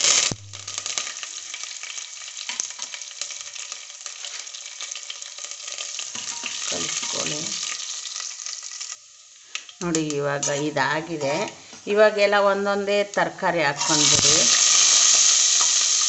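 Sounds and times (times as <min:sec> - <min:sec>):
seeds crackling in hot oil: 0:00.0 - 0:11.7, 0:12.9 - 0:16.0.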